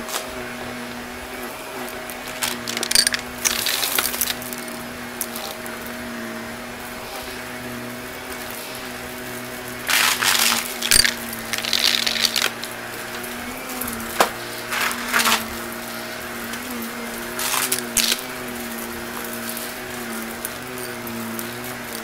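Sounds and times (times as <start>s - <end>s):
debris rattling in vacuum: 0.0s - 22.0s
vacuum cleaner motor hum: 0.0s - 22.0s.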